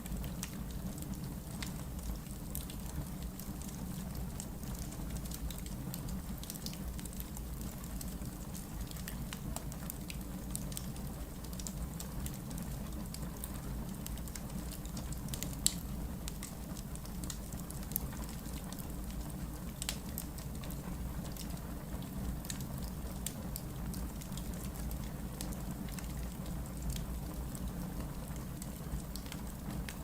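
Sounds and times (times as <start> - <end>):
logs crackling in fireplace: 0.0 - 30.0.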